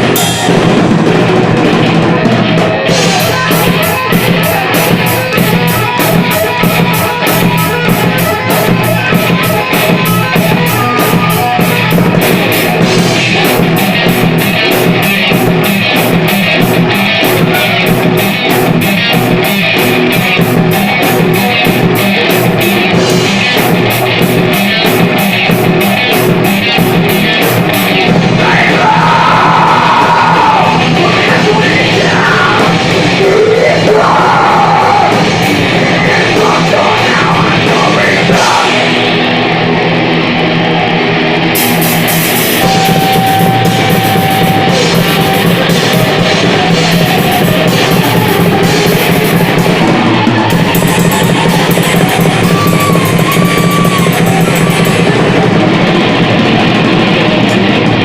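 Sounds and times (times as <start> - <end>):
bending sliding guitar line: 0.0 - 58.0
heavy metal band playing: 0.0 - 58.0.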